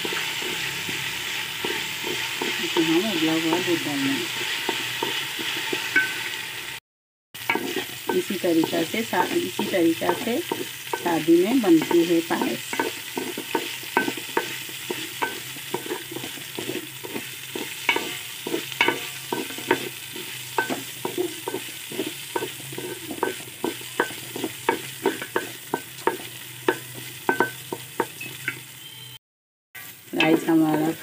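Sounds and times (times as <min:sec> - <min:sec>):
spatula scraping metal pot: 0:00.0 - 0:06.2, 0:07.4 - 0:11.1, 0:11.7 - 0:28.6
rice sizzling: 0:00.0 - 0:06.8, 0:07.4 - 0:29.2, 0:29.8 - 0:31.0.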